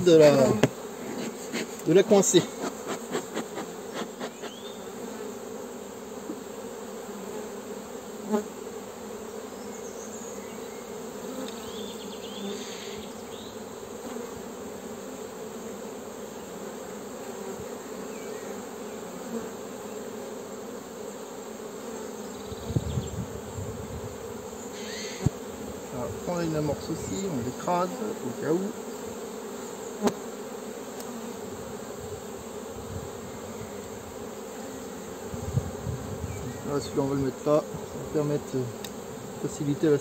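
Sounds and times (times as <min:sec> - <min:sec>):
bees humming: 0:00.0 - 0:40.0.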